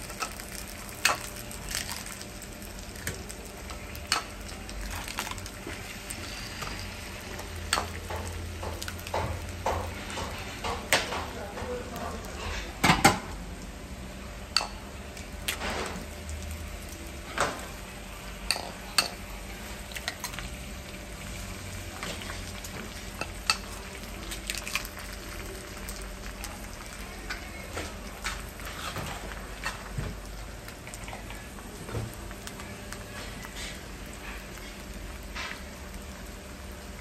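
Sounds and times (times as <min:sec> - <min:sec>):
meat and eggs sizzling: 0:00.0 - 0:37.0.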